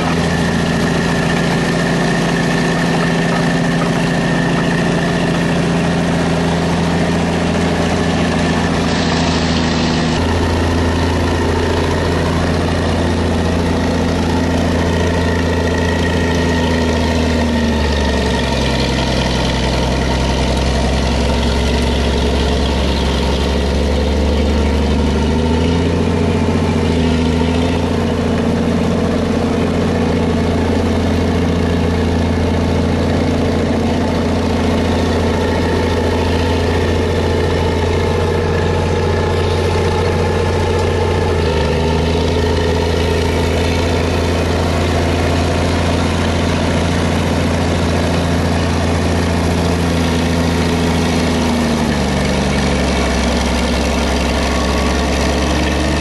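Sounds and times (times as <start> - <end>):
bulldozer blade pushing dirt: 0.0 - 56.0
bulldozer diesel engine running: 0.0 - 56.0.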